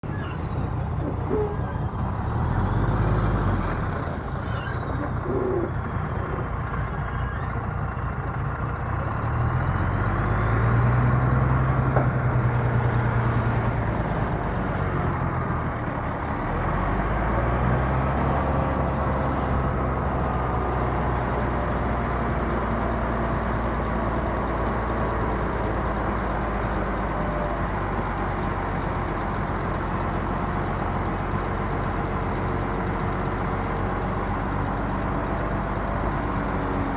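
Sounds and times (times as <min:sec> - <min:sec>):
bulldozer diesel engine under load: 0:00.0 - 0:36.9.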